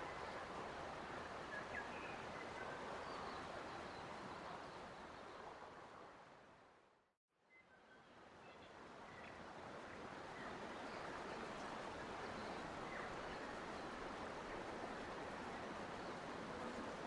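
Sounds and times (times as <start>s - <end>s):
flowing stream water: 0.0s - 6.8s, 8.2s - 17.0s.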